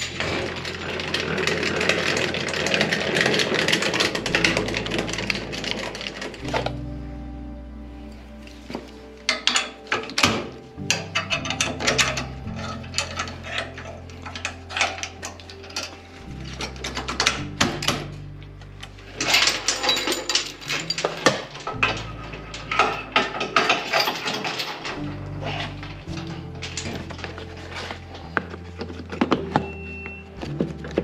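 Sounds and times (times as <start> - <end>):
held bass notes: 0.0 - 31.0.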